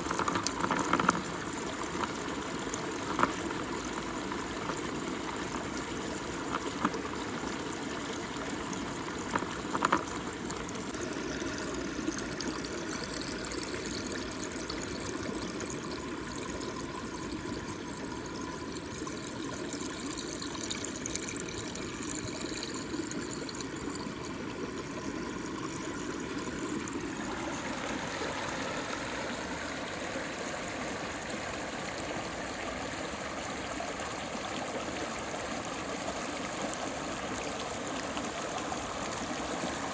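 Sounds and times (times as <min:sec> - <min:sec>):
water swirling down a drain: 0:00.0 - 0:39.9.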